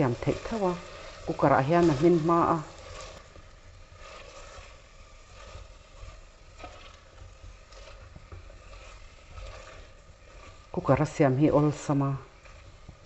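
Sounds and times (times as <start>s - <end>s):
spatula scraping and knocking pot: 0.0s - 13.0s
vegetables frying in oil: 0.0s - 13.0s.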